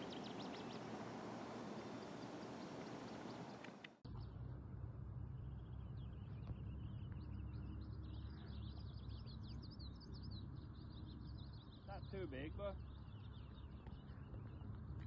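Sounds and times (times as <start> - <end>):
small birds chirping: 0.0 - 4.4, 5.4 - 15.0
steady low rumble: 0.0 - 15.0.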